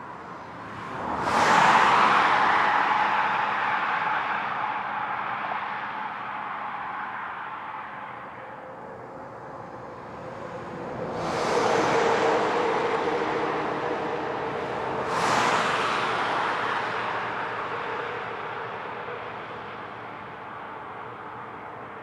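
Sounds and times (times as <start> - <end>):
highway traffic noise: 0.0 - 22.0.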